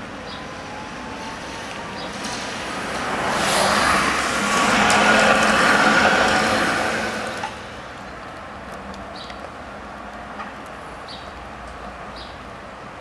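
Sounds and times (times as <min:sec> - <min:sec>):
street noise: 0:00.0 - 0:13.0
tram passing: 0:00.0 - 0:13.0.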